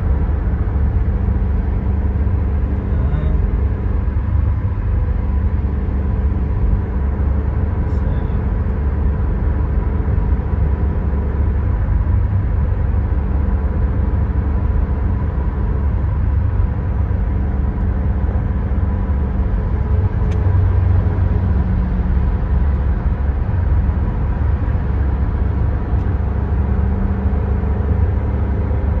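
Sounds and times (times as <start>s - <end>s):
road and engine rumble: 0.0s - 29.0s.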